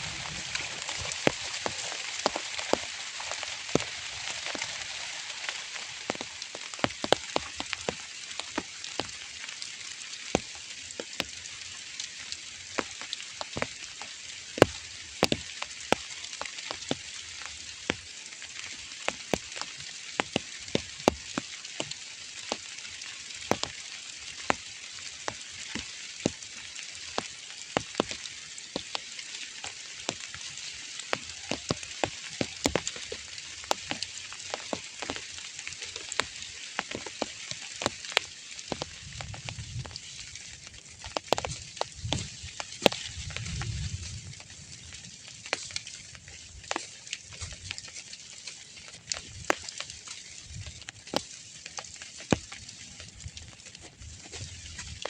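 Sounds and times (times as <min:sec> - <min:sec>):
light rain hiss: 0:00.0 - 0:55.0
raindrops tapping on surface: 0:00.0 - 0:55.0.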